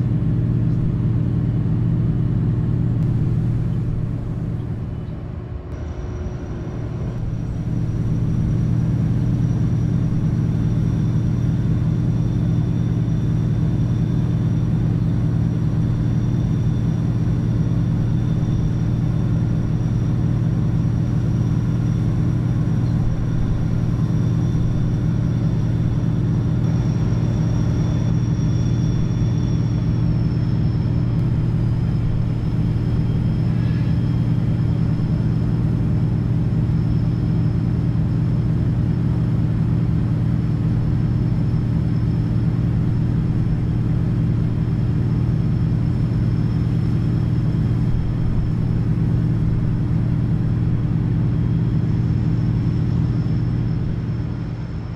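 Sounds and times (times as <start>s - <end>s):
diesel engine drone: 0.0s - 54.9s
faint high whine: 0.0s - 54.9s.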